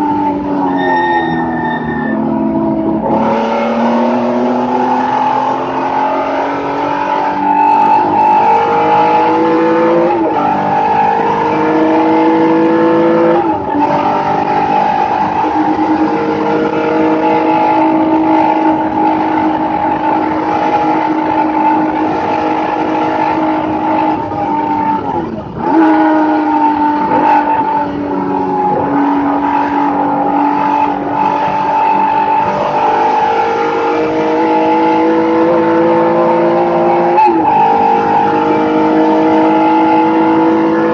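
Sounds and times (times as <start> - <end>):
race car engine under load: 0.0 - 40.9
tyre and road noise: 0.0 - 40.9.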